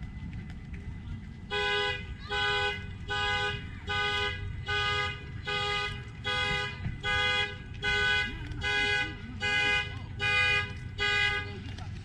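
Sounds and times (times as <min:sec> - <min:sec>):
car horn honking: 0:01.5 - 0:11.6.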